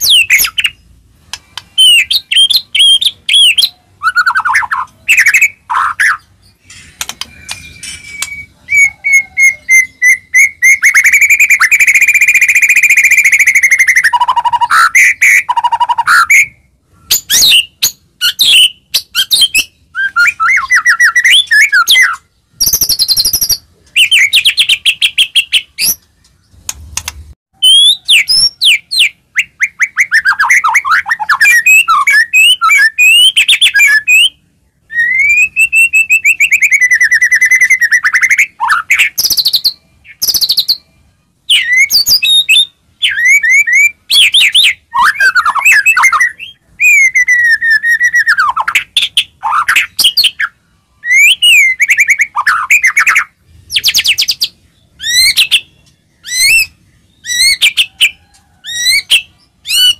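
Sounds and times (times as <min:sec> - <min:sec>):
songbird trills and whistles: 0:00.0 - 0:26.7, 0:27.6 - 0:59.9.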